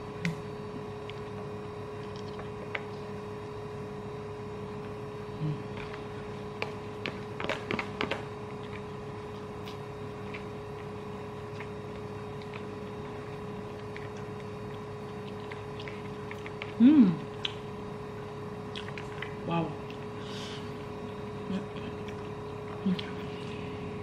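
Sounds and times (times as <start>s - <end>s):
steady hum: 0.0s - 24.0s
chewing: 1.0s - 3.2s, 4.8s - 17.9s, 18.6s - 23.7s.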